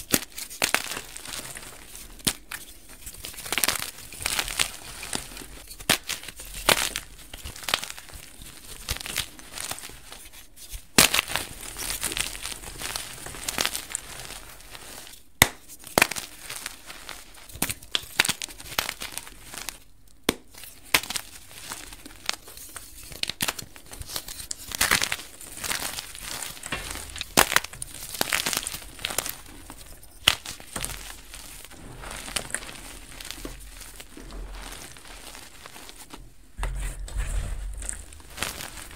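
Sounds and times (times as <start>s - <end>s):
hands rustling in powder: 0.0s - 15.2s, 15.8s - 19.9s, 20.5s - 38.9s
chalk crunching and crackling: 0.0s - 19.9s, 20.5s - 38.9s.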